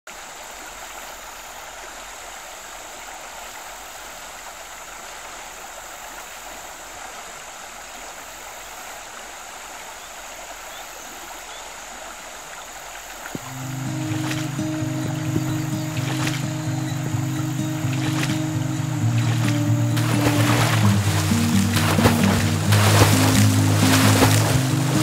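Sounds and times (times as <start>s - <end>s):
creek running over stones: 0.1s - 25.0s.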